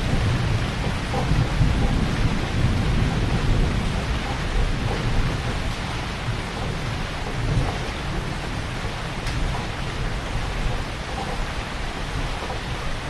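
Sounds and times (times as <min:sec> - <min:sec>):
heavy rain falling: 0:00.0 - 0:13.0
low rumble of thunder: 0:00.0 - 0:13.0.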